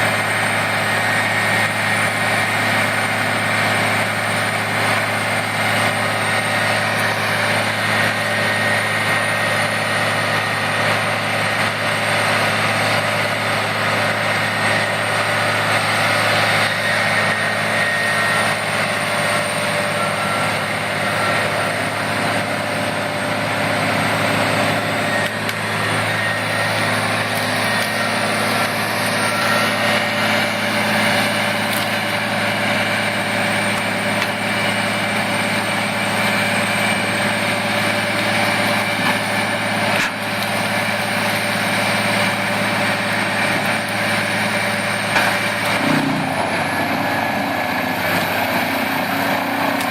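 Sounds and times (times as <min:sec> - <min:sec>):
wood chipper engine droning: 0:00.0 - 0:49.9.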